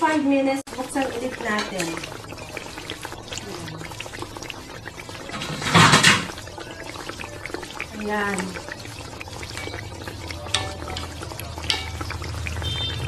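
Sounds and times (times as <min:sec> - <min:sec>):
rush of liquid: 0:00.7 - 0:13.0
sauce bubbling and popping: 0:00.7 - 0:13.0.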